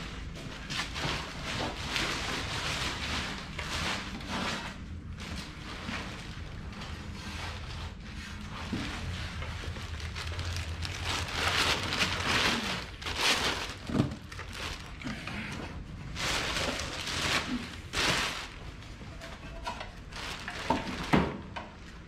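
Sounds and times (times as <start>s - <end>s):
packaging rustling and crackling: 0.0s - 15.2s, 16.0s - 22.0s.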